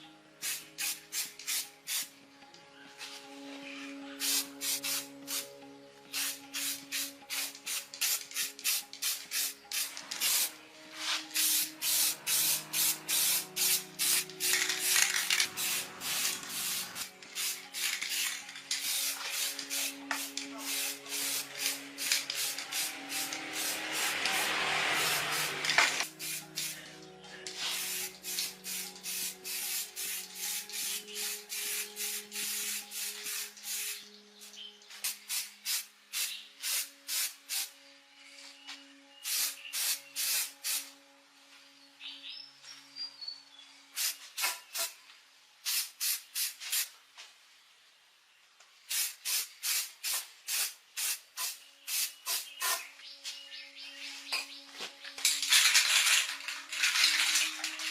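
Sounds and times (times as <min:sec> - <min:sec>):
soft background music: 0:00.0 - 0:46.0, 0:47.7 - 0:57.9.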